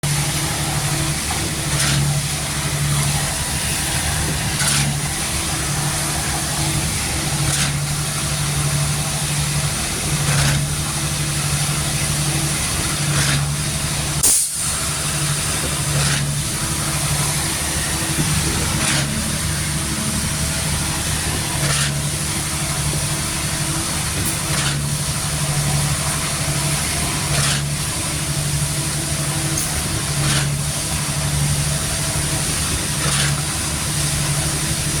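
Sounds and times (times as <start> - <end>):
diesel engine running: 0.0 - 35.0
pump hiss-clunk: 0.0 - 35.0.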